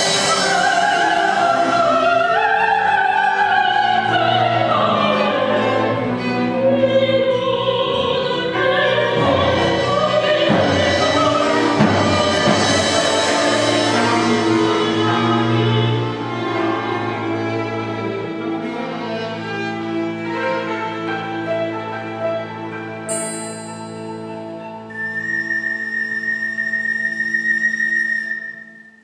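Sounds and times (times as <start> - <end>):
string ensemble playing: 0.0 - 28.7
soprano singing: 0.0 - 29.0.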